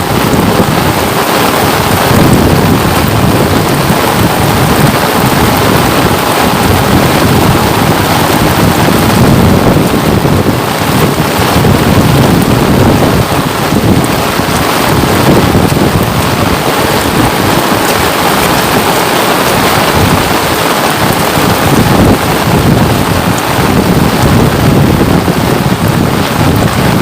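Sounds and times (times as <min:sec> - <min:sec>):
loud rain falling: 0:00.0 - 0:27.0.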